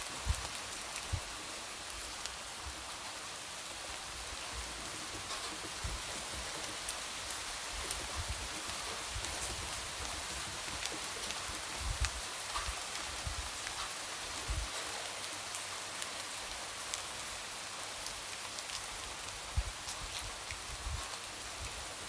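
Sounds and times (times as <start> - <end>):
light rain hissing: 0.0 - 22.0.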